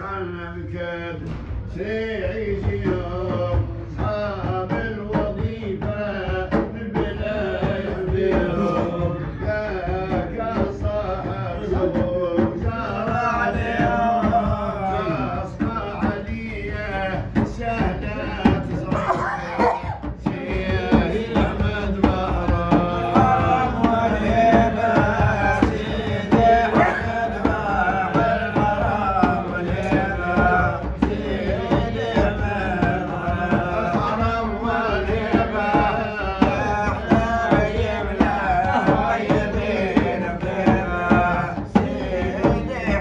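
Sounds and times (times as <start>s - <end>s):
drums beating steady rhythm: 0.0s - 43.0s
person singing verses: 1.8s - 43.0s.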